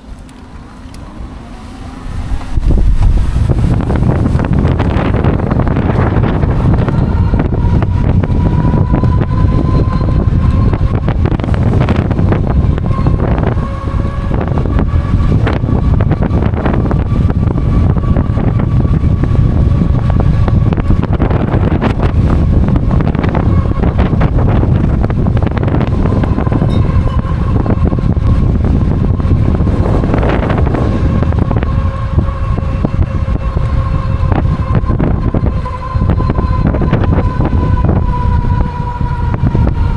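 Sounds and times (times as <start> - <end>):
electric motor whine: 0.0 - 39.9
wind buffeting microphone: 0.0 - 39.9.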